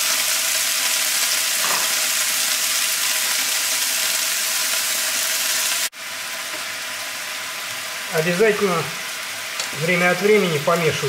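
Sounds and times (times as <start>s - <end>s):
mushrooms sizzling in a pan: 0.0s - 11.0s.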